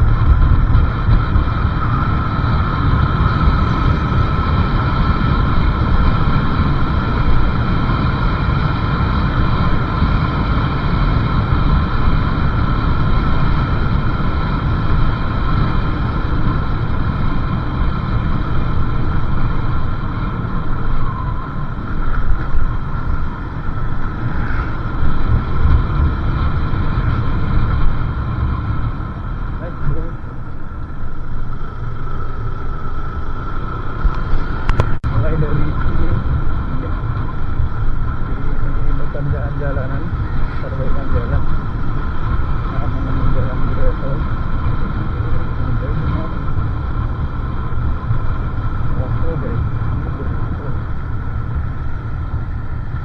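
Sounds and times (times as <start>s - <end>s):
motorcycle engine drone: 0.0s - 53.0s
wind rumble on microphone: 0.0s - 53.0s.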